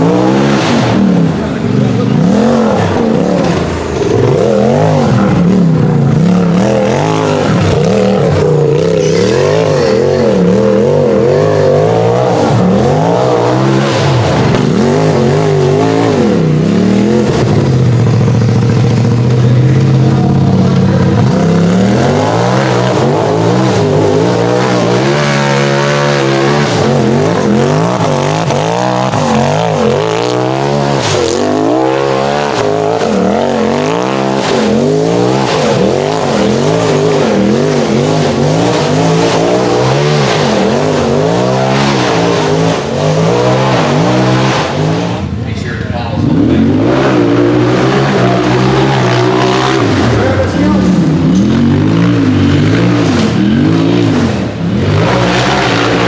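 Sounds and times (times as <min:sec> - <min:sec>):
engine revving under load: 0:00.0 - 0:56.0.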